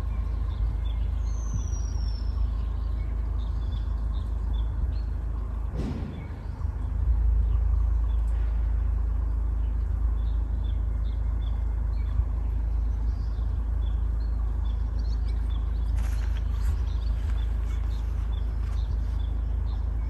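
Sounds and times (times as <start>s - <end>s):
bird chirping: 0.0s - 20.0s
low steady rumble: 0.0s - 20.0s.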